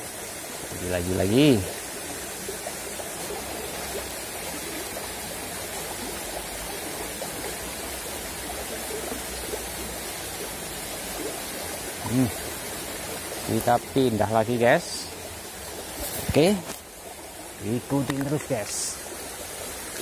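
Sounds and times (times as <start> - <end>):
river babbling over stones: 0.0 - 20.0.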